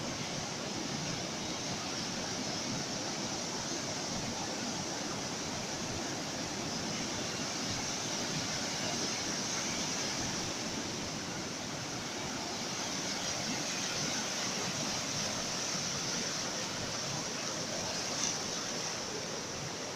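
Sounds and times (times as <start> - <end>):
waves breaking: 0.0 - 19.9.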